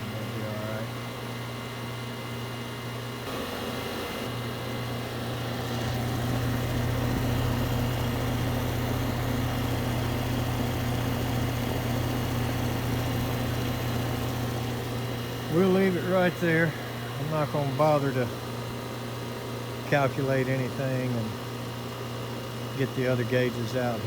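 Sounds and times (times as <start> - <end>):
air conditioner compressor hum: 0.0 - 24.0.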